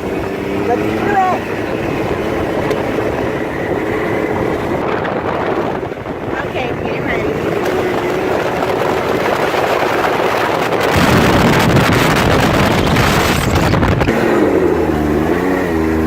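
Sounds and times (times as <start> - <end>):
engine revving: 0.0 - 16.0
wind rushing over microphone: 0.0 - 16.0.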